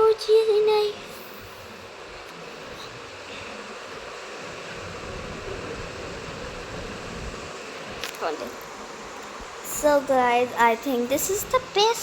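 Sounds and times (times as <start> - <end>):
even hiss: 0.0 - 12.0
low hum: 0.0 - 12.0.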